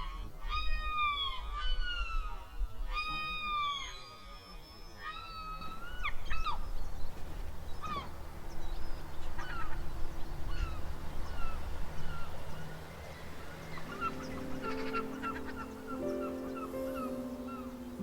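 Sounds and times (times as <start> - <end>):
seagulls calling: 0.0 - 18.0.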